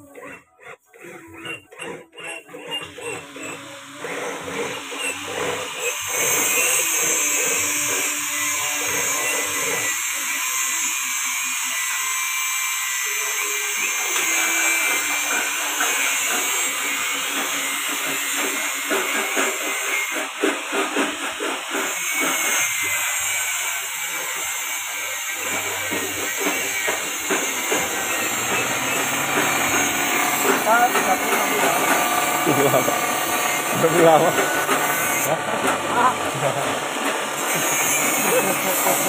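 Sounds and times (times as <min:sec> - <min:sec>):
electric grass chopper running: 0:00.0 - 0:39.0.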